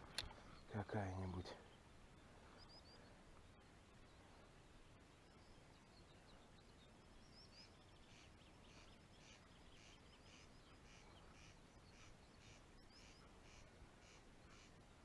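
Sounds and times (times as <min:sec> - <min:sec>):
background hiss: 0:00.0 - 0:15.0
faint birdsong: 0:00.0 - 0:15.0.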